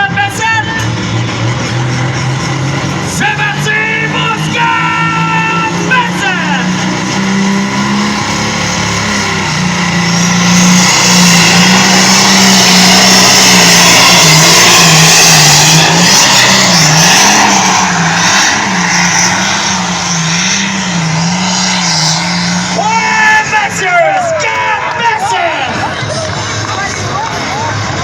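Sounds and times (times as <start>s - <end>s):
vehicle engine at full throttle: 0.0s - 28.0s.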